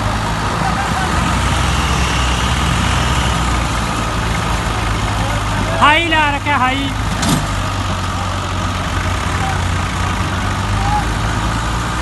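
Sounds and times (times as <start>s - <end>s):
tractor diesel engines droning: 0.0s - 12.0s.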